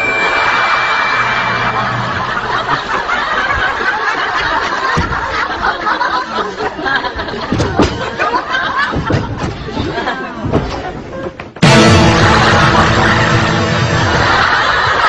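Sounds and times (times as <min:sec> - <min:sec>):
people snickering and chuckling: 0:00.4 - 0:15.0.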